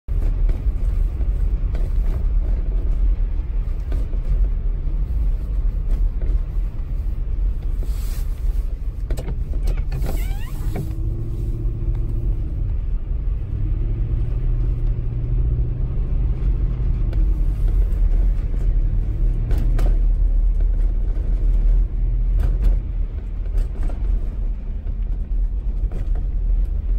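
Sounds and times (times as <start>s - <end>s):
low engine-like hum: 0.1s - 26.9s.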